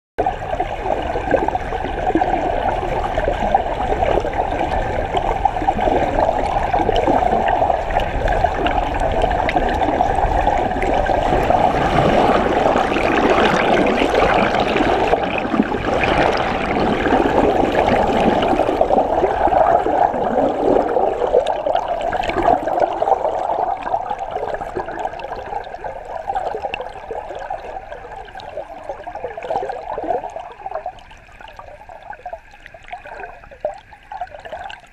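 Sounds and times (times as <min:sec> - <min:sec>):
water rushing and gurgling: 0:00.2 - 0:34.9.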